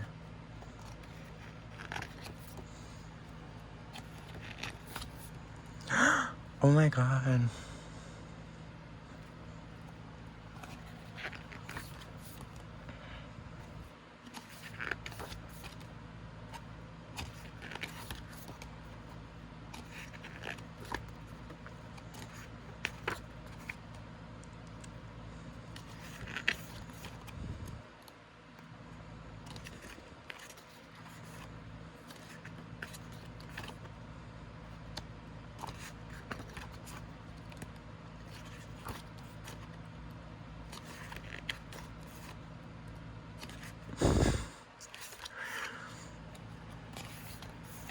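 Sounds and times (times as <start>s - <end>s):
paper pages rustling: 0.0s - 5.8s, 9.1s - 13.0s, 13.6s - 28.7s, 29.3s - 44.2s, 44.8s - 47.9s
steady low hum: 0.0s - 47.9s.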